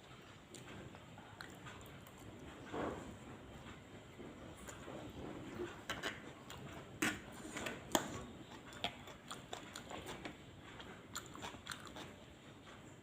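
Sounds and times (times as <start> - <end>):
person chewing food: 0.0 - 2.7, 4.4 - 12.7.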